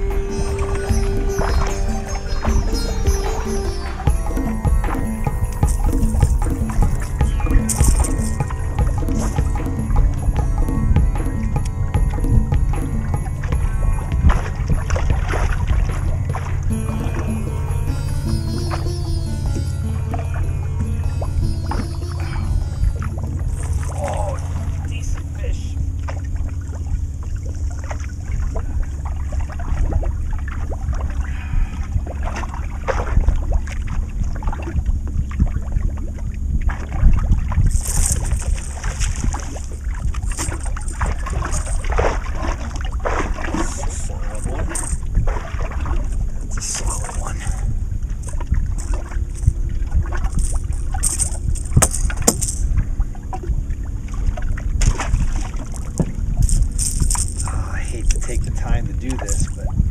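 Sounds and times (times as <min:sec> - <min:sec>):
water lapping against hull: 0:00.0 - 0:59.9
wind rumbling on microphone: 0:00.0 - 0:59.9.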